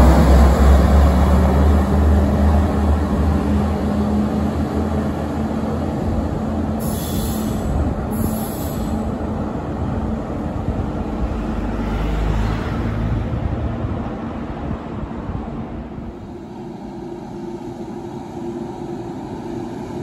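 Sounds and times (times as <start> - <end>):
diesel train engine hum: 0.0 - 20.0
train rumbling on rails: 0.0 - 20.0.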